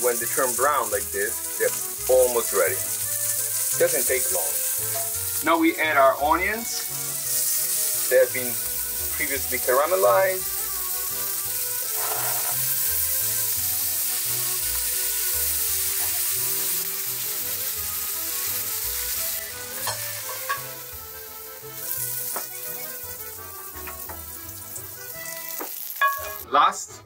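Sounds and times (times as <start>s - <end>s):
vegetables sizzling in a skillet: 0.0s - 26.6s.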